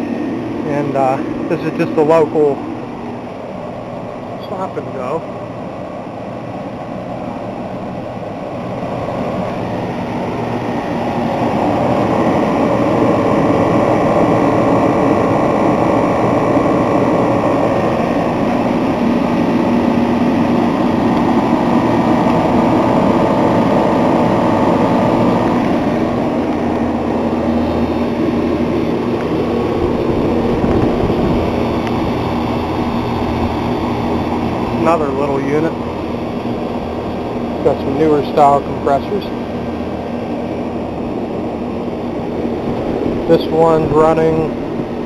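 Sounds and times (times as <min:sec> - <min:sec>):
compressor hum: 0:00.0 - 0:45.0
condenser fans rushing: 0:00.0 - 0:45.0.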